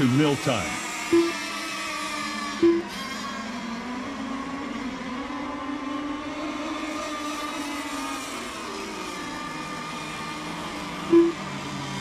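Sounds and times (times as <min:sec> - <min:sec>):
model boat motor whining: 0:00.0 - 0:12.0.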